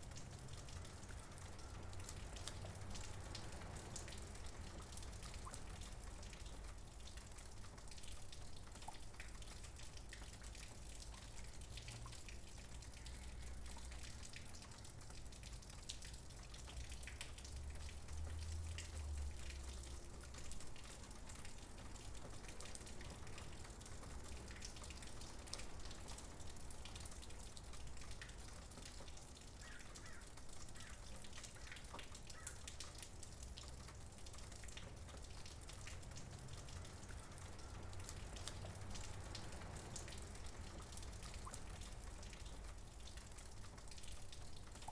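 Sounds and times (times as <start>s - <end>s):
faint rain: 0.0s - 44.9s.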